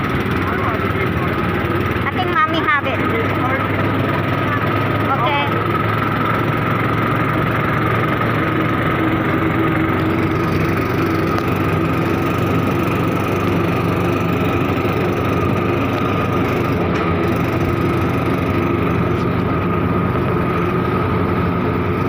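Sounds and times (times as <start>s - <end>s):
steady whine: 0.0s - 22.0s
vehicle engine running: 0.0s - 22.0s.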